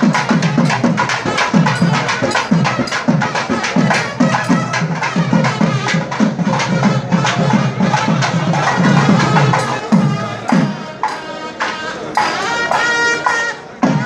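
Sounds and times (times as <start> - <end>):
drum beating: 0.0 - 14.0
reed pipe playing: 0.0 - 14.0.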